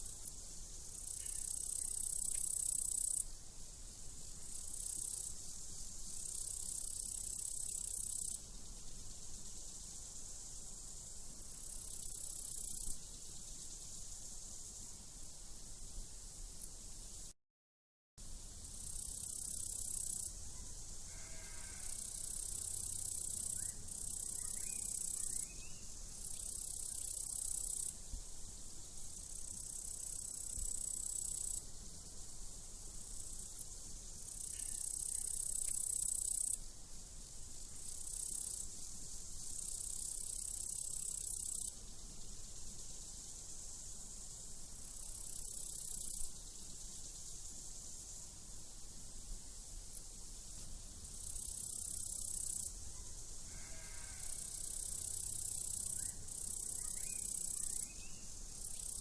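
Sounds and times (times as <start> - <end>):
steady hiss: 0.0 - 17.4, 18.2 - 59.0
crickets trilling: 0.1 - 3.4, 4.0 - 14.9, 18.3 - 59.0.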